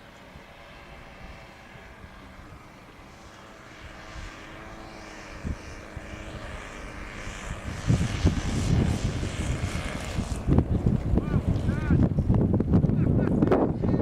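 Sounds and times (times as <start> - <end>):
model plane engines running: 0.0 - 14.0
wind buffeting microphone: 0.0 - 14.0.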